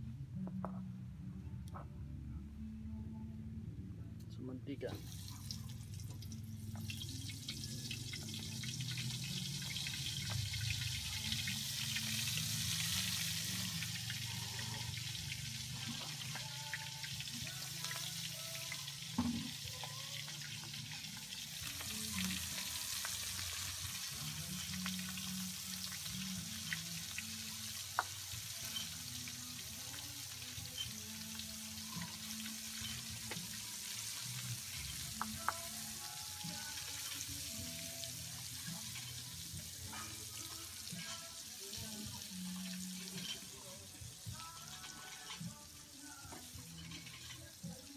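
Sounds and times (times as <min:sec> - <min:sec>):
food sizzling in oil: 0:05.0 - 0:47.9.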